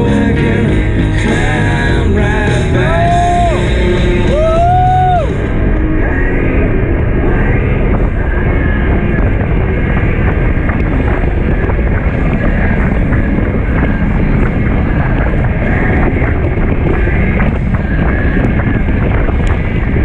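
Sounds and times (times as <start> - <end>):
wind buffeting microphone: 0.0 - 20.0
wind rush and road rumble: 0.0 - 20.0.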